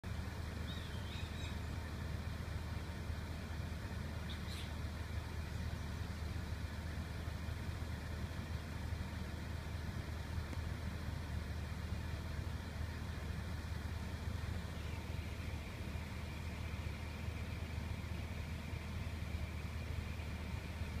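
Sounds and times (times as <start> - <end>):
low rumble with hiss: 0.0 - 21.0.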